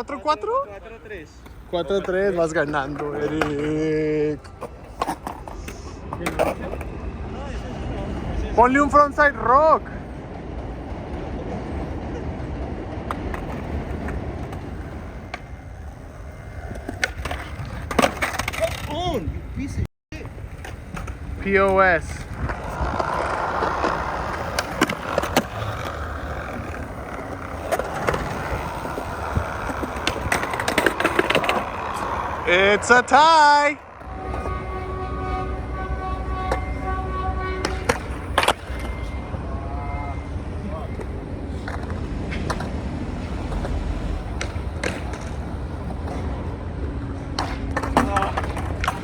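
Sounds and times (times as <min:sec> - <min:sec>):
skateboard wheels rolling: 0:00.0 - 0:49.0
skateboard clacks: 0:01.4 - 0:07.0, 0:10.2 - 0:19.3, 0:20.3 - 0:37.0, 0:37.6 - 0:39.1, 0:40.9 - 0:49.0.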